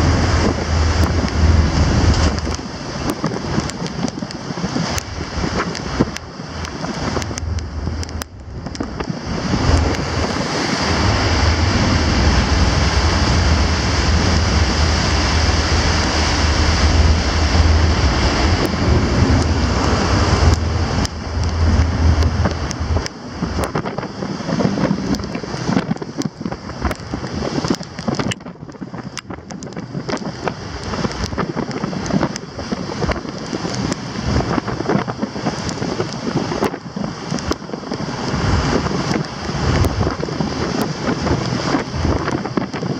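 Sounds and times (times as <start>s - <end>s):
low wind rumble: 0.0s - 42.9s
sea water churning along hull: 0.0s - 42.9s
wind buffeting microphone: 0.0s - 42.9s.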